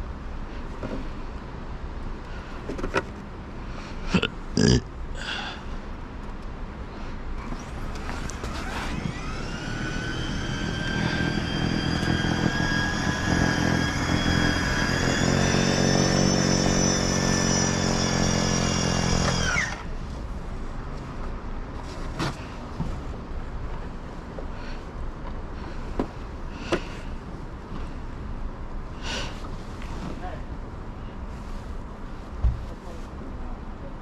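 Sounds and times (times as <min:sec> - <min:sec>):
engine running with high whine: 0:00.0 - 0:33.6.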